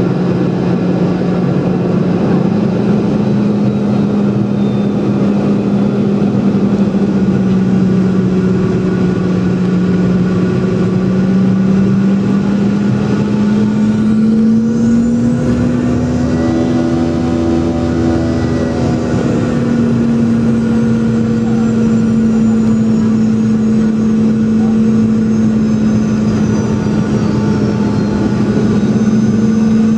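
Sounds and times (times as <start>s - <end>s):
jet engines humming in cabin: 0.0s - 29.9s.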